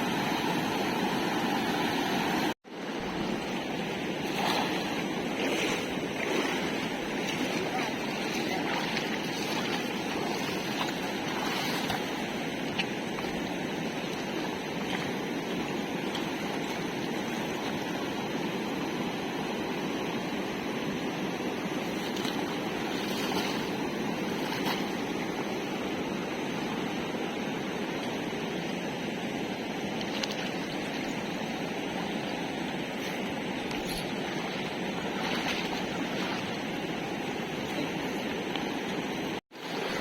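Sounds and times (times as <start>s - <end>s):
floodwater rushing: 0.0s - 20.0s, 21.7s - 28.3s, 29.2s - 40.0s.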